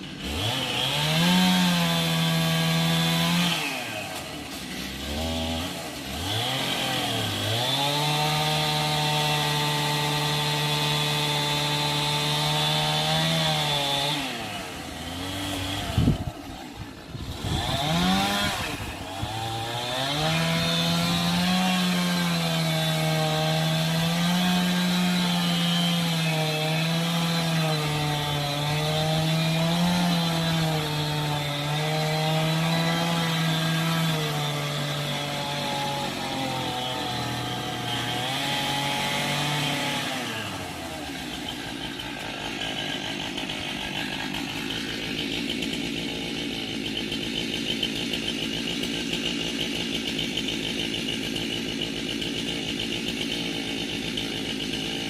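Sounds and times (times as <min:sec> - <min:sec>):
chainsaw cutting into tree: 0:00.0 - 0:55.0.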